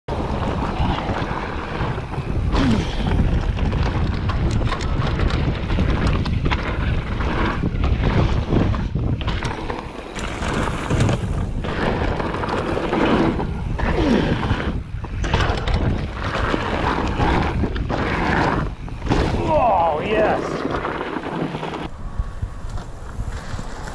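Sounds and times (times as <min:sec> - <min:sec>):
bike knocks and rattles: 0:00.1 - 0:21.9
tyres rolling on dirt trail: 0:00.1 - 0:23.9
wind buffeting microphone: 0:00.1 - 0:23.9.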